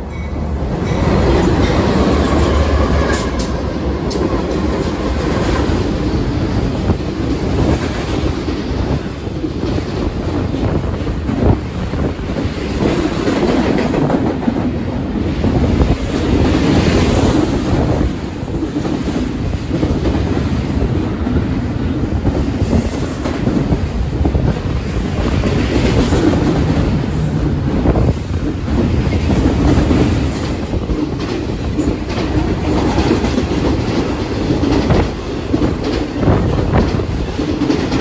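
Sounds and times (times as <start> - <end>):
freight train rumbling past: 0.0 - 38.0
wheels clacking over rails: 0.0 - 38.0.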